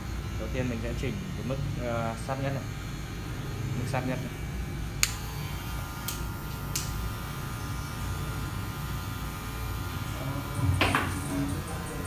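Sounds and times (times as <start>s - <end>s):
electric hair clipper humming: 0.0s - 12.0s.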